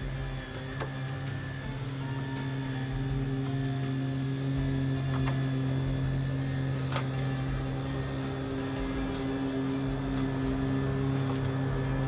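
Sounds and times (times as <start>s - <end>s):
electric lawn mower humming: 0.0s - 12.0s.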